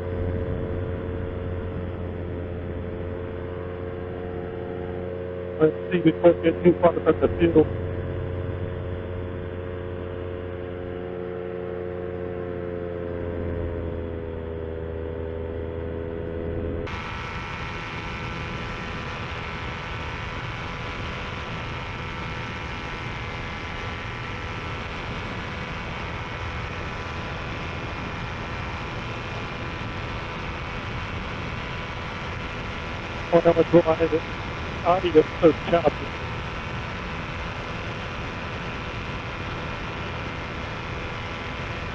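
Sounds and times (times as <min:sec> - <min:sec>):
paramotor engine and propeller drone: 0:00.0 - 0:41.9.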